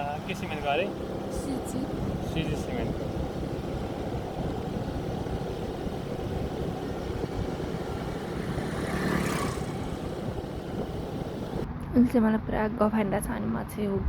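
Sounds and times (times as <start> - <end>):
wind noise: 0.0 - 12.0
vehicle engine rumble: 0.0 - 14.0.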